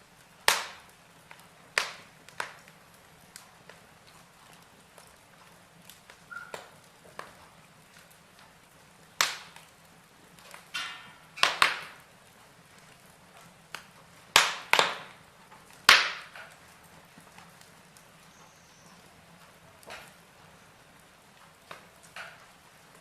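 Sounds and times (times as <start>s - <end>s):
logs crackling and popping in fireplace: 0.0s - 23.0s.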